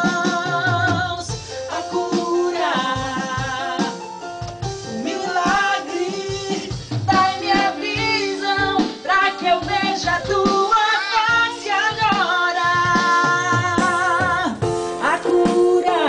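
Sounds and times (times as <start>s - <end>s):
drum beat: 0.0s - 16.0s
guitar: 0.0s - 16.0s
person singing gospel: 0.0s - 16.0s.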